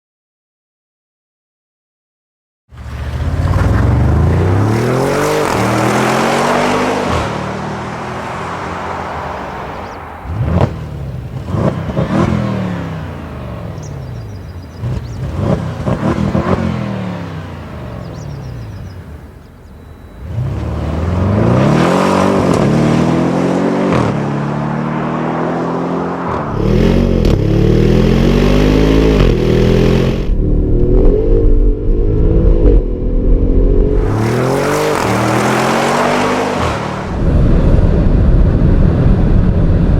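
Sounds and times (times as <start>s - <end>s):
car engine accelerating hard: 2.8s - 19.3s, 20.2s - 39.9s.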